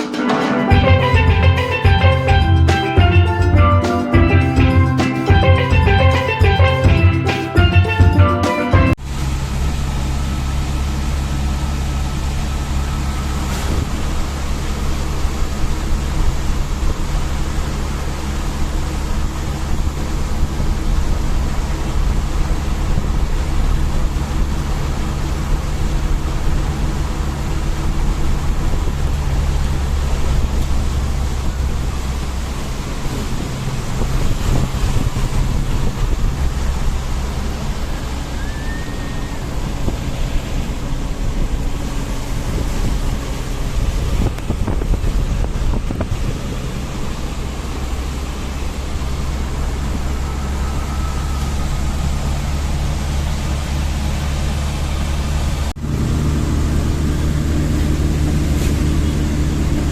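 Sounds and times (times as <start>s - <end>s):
road and wind noise: 8.9s - 59.9s
vehicle engine hum: 8.9s - 59.9s.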